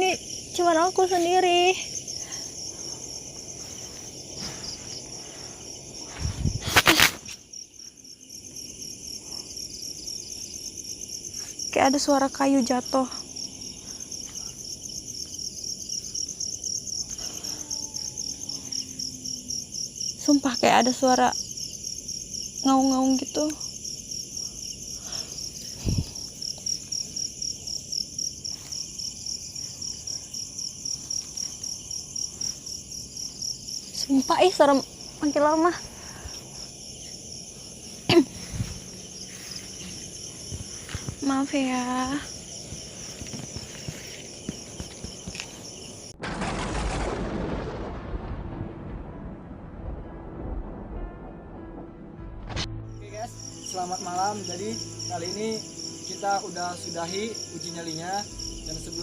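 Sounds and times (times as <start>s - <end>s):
crickets chirping: 0.0s - 46.2s, 52.7s - 59.0s.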